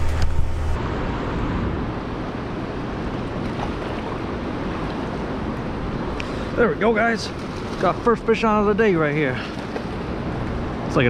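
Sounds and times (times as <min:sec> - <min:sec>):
fast-moving river water: 0:00.0 - 0:11.0.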